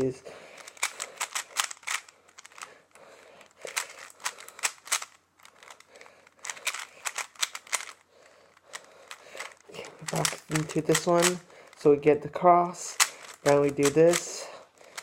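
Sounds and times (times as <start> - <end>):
puzzle cube plastic clicks: 0.1 - 11.9, 12.7 - 15.0.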